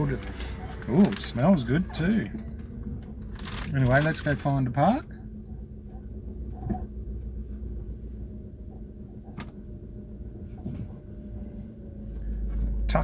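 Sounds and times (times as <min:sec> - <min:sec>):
car engine and road rumble: 0:00.0 - 0:13.0
faint hum: 0:00.0 - 0:13.0.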